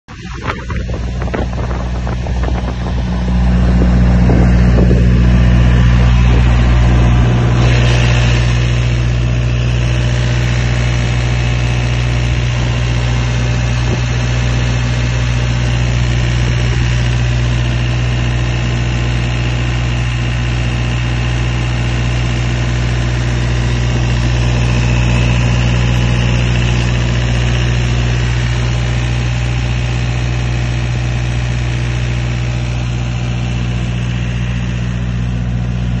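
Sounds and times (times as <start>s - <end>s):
diesel engine running steadily: 0.1s - 36.0s.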